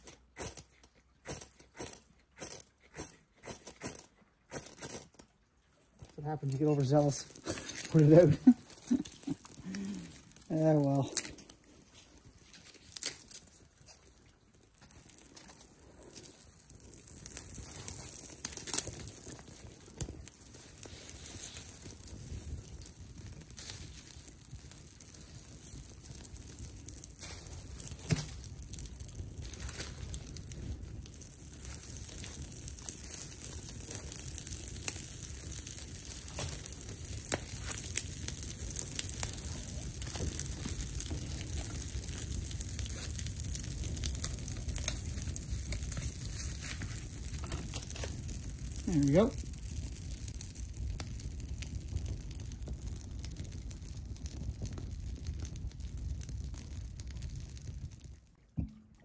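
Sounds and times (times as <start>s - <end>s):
kindling crackling and snapping: 0.0s - 59.0s
low rush of flame: 0.1s - 59.0s.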